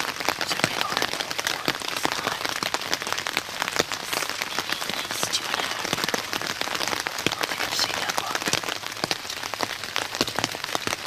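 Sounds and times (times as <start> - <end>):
raindrops ticking on a surface: 0.0 - 11.0
steady rain: 0.0 - 11.0.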